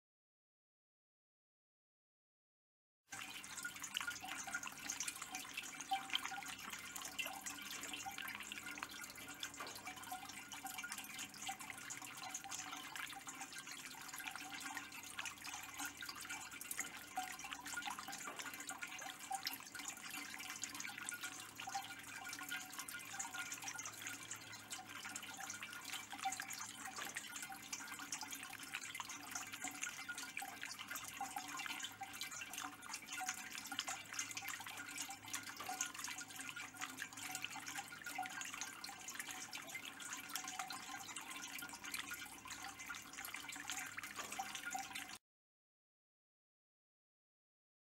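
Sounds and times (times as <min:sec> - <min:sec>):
water feature trickling over metal: 0:03.1 - 0:45.2.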